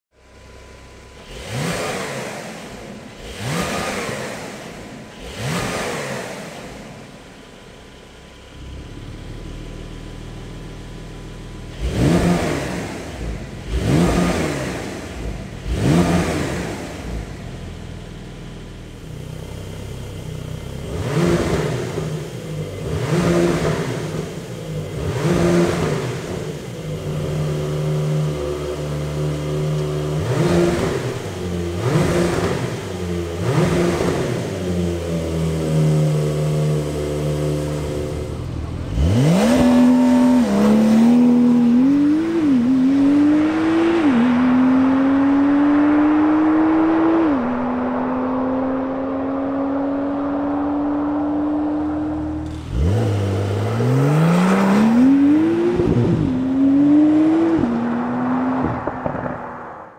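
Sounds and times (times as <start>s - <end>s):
car engine idling: 0.1s - 44.0s, 47.4s - 56.6s
car engine revving: 0.3s - 59.9s.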